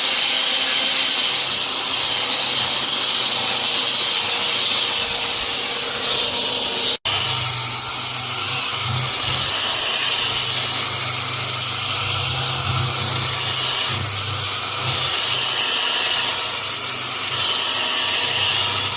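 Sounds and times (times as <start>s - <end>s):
power sander running: 0.0s - 18.9s.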